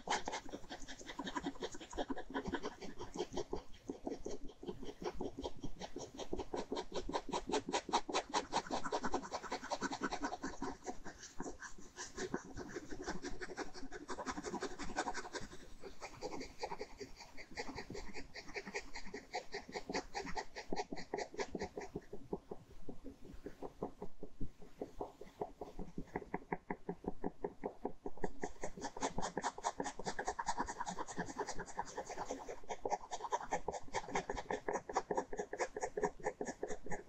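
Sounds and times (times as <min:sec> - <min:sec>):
pen scratching on paper: 0:00.0 - 0:37.0.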